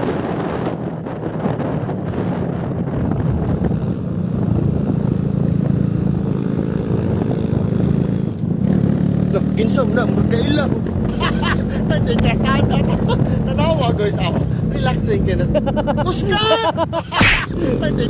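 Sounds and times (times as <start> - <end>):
road and wind noise: 0.0 - 18.0
vehicle engine hum: 0.0 - 18.0.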